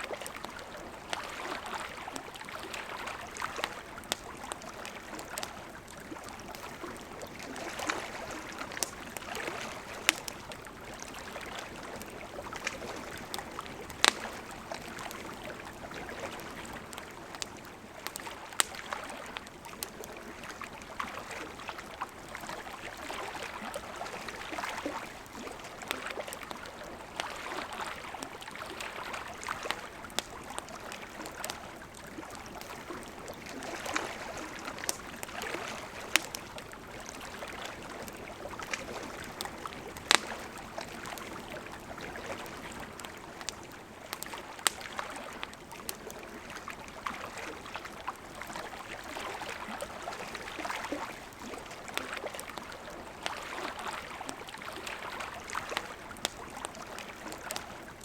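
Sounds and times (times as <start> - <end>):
campfire crackling and popping: 0.0 - 58.0
flowing river babbling: 0.0 - 58.0.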